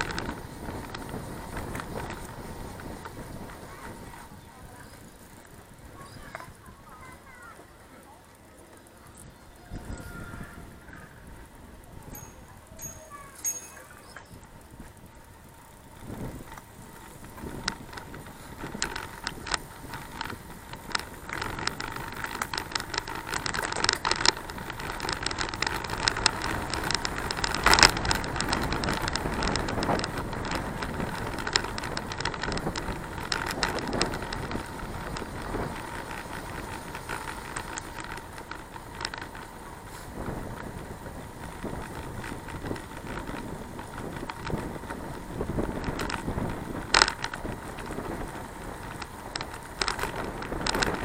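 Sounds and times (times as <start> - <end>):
wind noise: 0.0 - 5.2, 9.2 - 51.0
bicycle frame rattling: 0.0 - 51.0
tyres rolling: 0.0 - 51.0.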